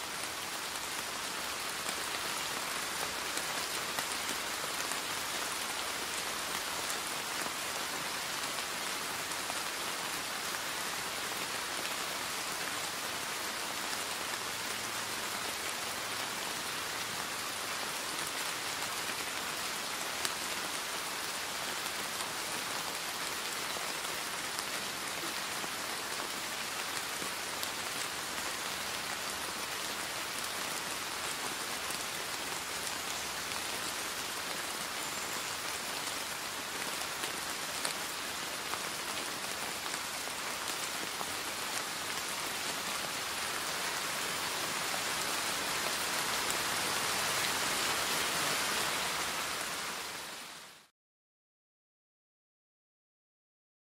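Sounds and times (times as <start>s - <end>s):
rain on wet paving: 0.0s - 50.9s.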